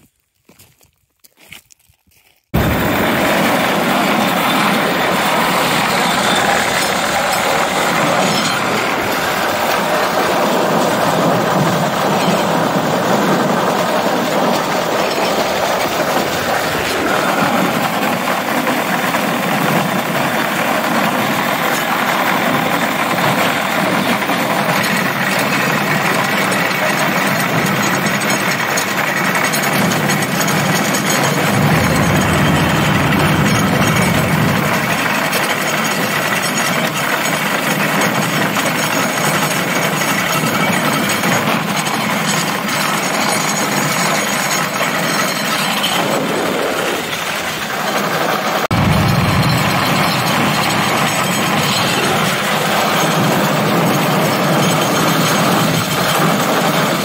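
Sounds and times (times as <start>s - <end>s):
motorized rail cart running: 2.6s - 57.0s.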